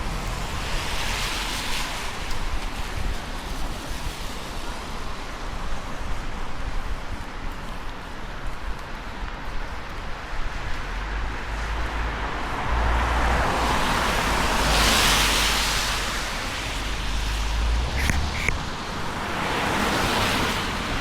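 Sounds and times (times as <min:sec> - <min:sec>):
tyre hiss on wet road: 0:00.0 - 0:21.0
wind rumble on microphone: 0:00.0 - 0:21.0.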